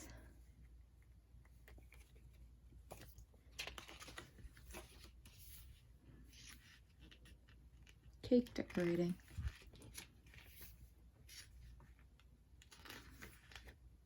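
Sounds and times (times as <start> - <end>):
photo book pages turning: 1.3 - 14.0.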